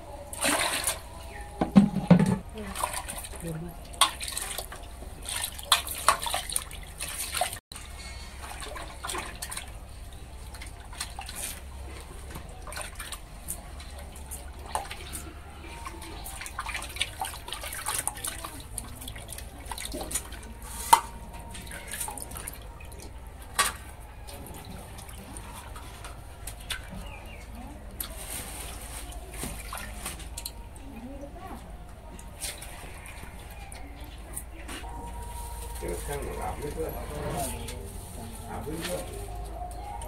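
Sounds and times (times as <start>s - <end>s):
water splashing and dripping: 0.3s - 34.5s.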